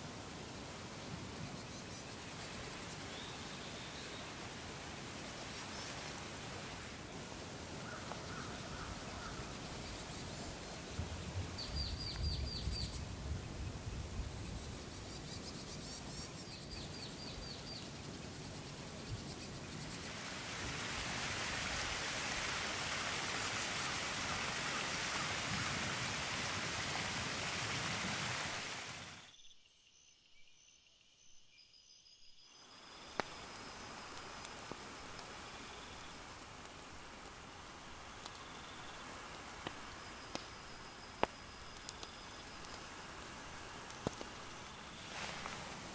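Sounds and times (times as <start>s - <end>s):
steady outdoor hiss: 0.0s - 45.9s.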